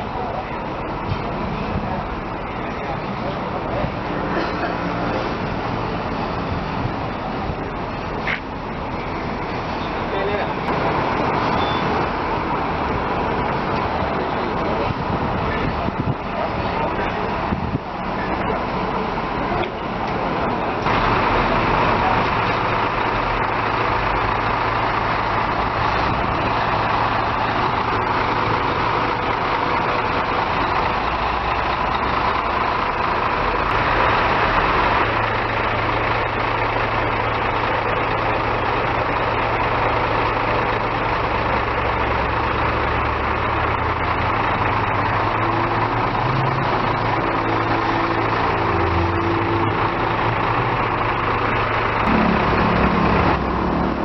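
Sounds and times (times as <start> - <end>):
coach engine running: 0.0 - 54.0
road noise: 0.0 - 54.0.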